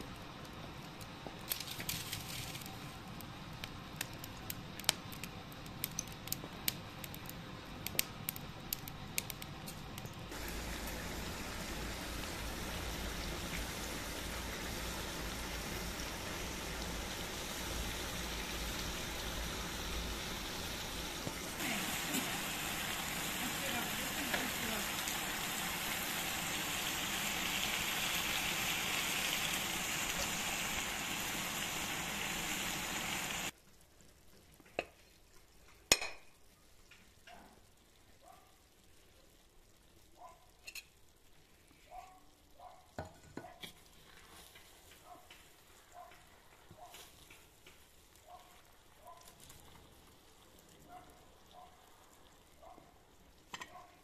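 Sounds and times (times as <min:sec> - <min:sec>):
rice sizzling in a pot: 0:00.0 - 0:33.6, 0:43.0 - 0:52.6.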